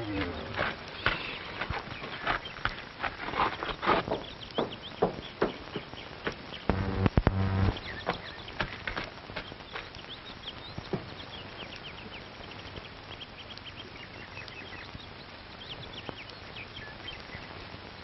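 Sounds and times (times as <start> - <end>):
birds chirping: 0.0 - 18.0
steady hiss: 0.0 - 18.0.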